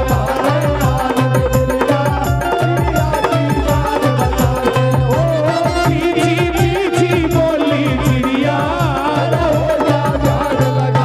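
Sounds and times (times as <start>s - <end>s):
electronic keyboard melody: 0.0s - 11.0s
steady drum beat: 0.0s - 11.0s.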